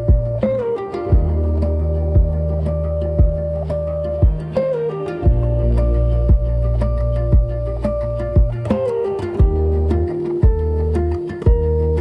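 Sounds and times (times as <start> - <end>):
deep kick drum: 0.0 - 8.8, 9.4 - 10.8, 11.4 - 11.9
instrumental pop music: 0.0 - 12.0.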